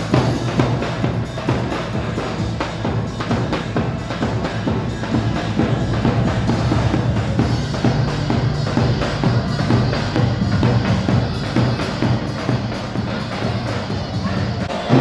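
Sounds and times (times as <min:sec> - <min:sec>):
bass drum and snare beat: 0:00.0 - 0:15.0
loud dance music: 0:00.0 - 0:15.0.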